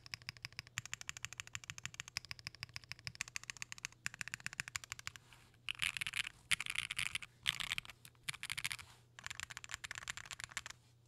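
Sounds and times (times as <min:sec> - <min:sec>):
fast typing on mechanical keyboard: 0:00.0 - 0:10.7.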